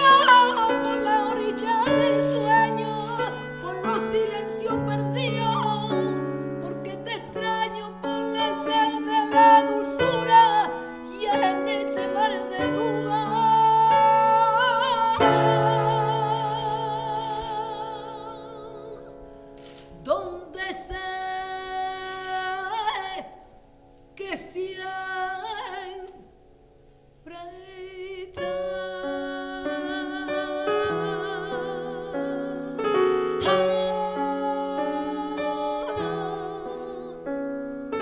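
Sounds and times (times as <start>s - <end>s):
woman singing flamenco: 0.0s - 19.2s, 19.9s - 23.5s, 24.1s - 26.3s, 27.2s - 37.6s
piano chords: 0.0s - 38.0s.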